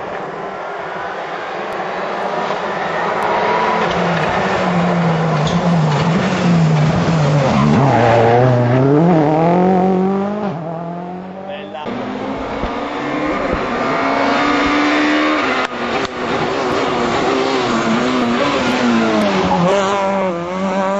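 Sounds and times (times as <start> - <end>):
rally car engine revving: 2.1 - 20.9.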